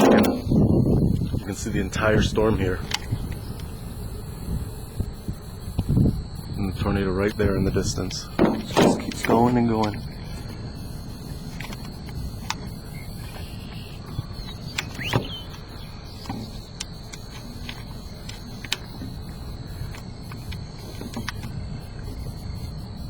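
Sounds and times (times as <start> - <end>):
sharp clicks: 0.0 - 3.8, 7.2 - 22.9
high insect drone: 0.0 - 23.0
wind rumble on microphone: 0.0 - 23.0.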